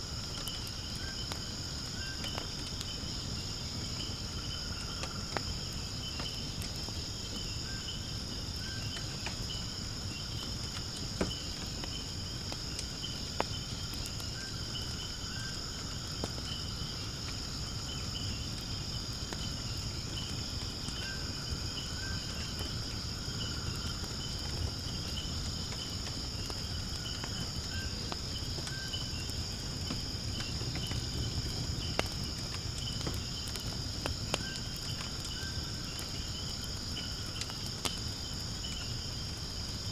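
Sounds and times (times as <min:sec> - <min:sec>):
fire burning with low rumble: 0:00.0 - 0:39.9
fire crackling and popping: 0:00.0 - 0:39.9
insects trilling: 0:00.0 - 0:39.9.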